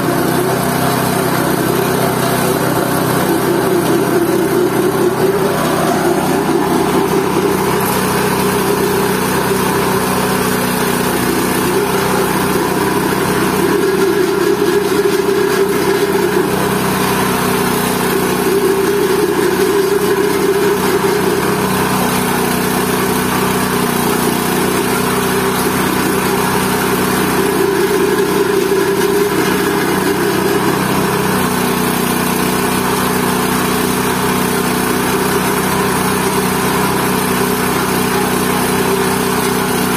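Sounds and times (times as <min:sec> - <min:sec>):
waste grinder grinding vegetables: 0:00.0 - 0:39.9.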